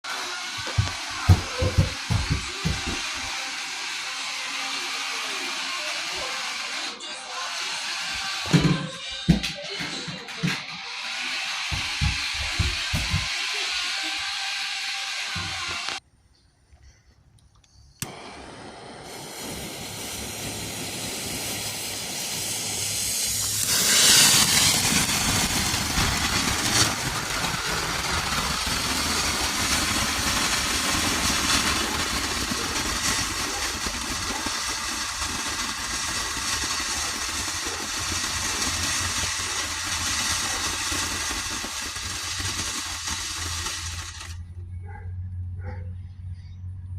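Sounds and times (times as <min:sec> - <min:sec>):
firework fountain hissing: 0:00.0 - 0:16.0, 0:18.0 - 0:44.6.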